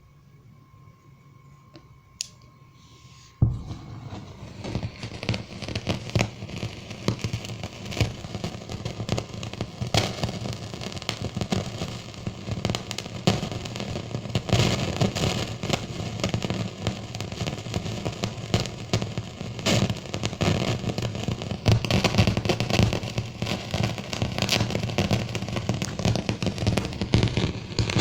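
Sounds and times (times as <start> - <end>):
low electrical hum: 0.0 - 28.0
electrical crackling and popping: 3.4 - 28.0.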